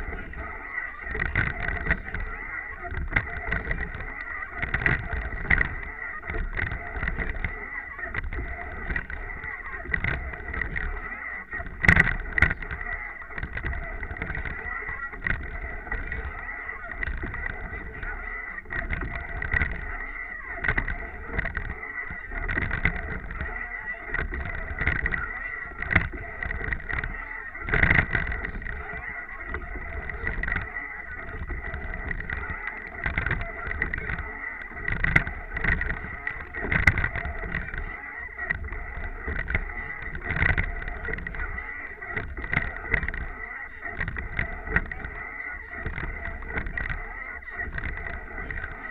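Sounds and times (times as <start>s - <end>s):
wind on microphone: 0.0s - 48.9s.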